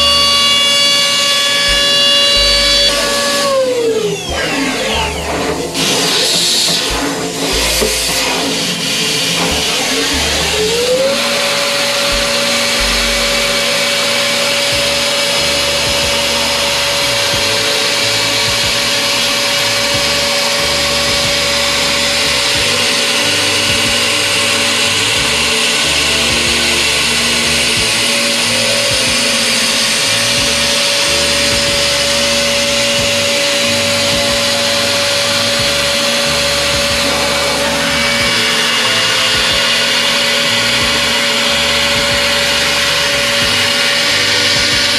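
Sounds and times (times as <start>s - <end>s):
milling machine spindle whine: 0.0s - 44.9s.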